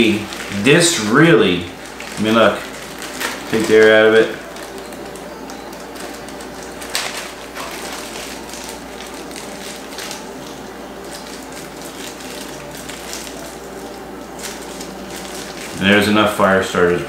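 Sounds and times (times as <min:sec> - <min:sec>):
plastic bag crackle: 0:00.0 - 0:16.8
plastic bag crinkling: 0:00.0 - 0:16.8.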